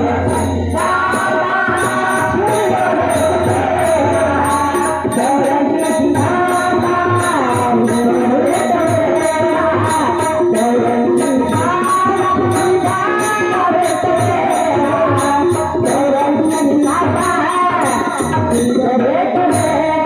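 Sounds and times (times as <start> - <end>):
high ringing percussive hits: 0.0 - 20.0.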